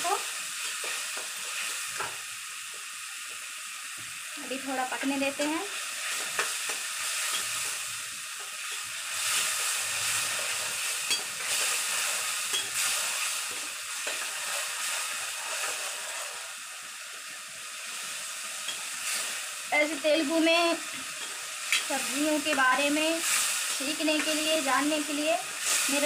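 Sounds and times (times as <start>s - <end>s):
masala sizzling in a pan: 0.0s - 26.0s.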